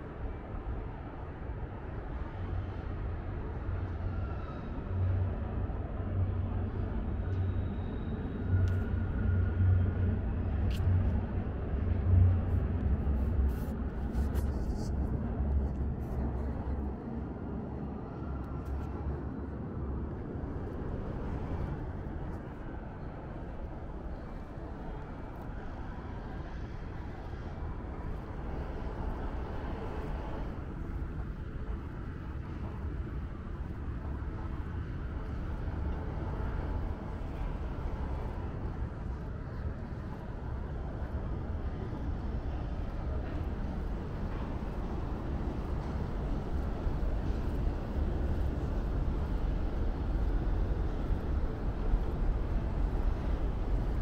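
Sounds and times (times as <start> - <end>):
background traffic hum: 0.0 - 54.0.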